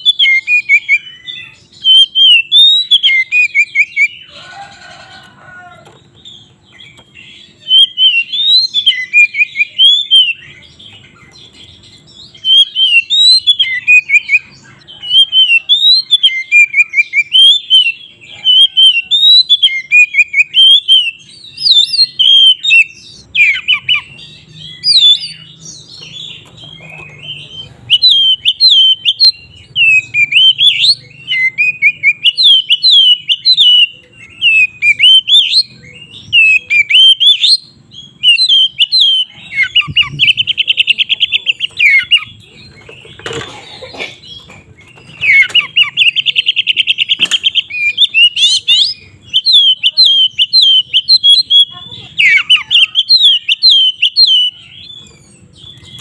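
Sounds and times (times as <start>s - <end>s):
bird singing whistled notes: 0.0s - 4.3s, 6.3s - 11.0s, 11.6s - 42.8s, 44.8s - 56.0s.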